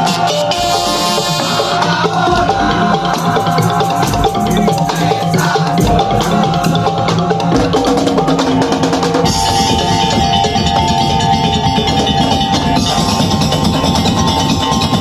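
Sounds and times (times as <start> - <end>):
drum and percussion strokes: 0.0 - 15.0
held melodic line: 0.0 - 15.0.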